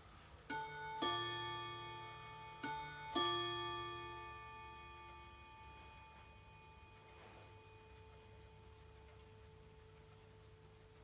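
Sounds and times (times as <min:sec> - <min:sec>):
wall clock chiming ding-dong: 0:00.5 - 0:11.0.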